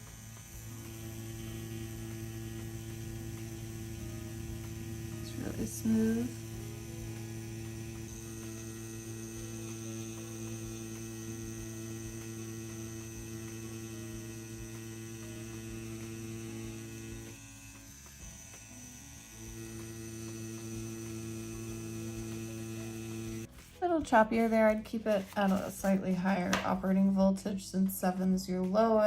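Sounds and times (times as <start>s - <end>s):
tattoo pen electric hum: 0.0s - 23.5s.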